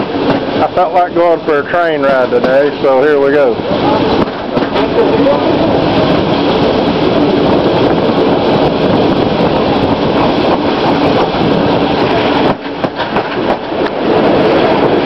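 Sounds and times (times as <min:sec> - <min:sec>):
train clicks: 0:00.0 - 0:15.0
train wheel and carriage rumble: 0:00.0 - 0:15.0.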